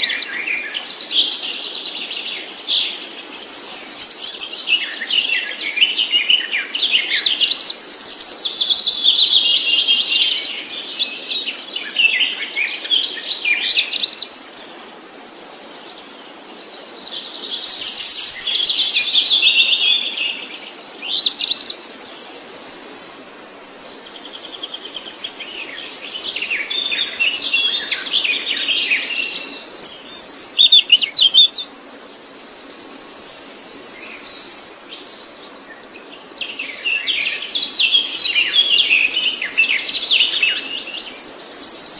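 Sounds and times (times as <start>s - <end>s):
songbird chirps and trills: 0.0s - 41.9s.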